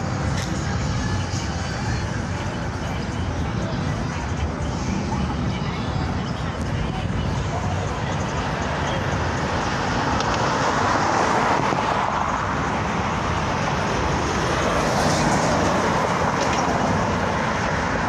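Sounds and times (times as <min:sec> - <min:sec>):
cars passing on street: 0:00.0 - 0:18.0.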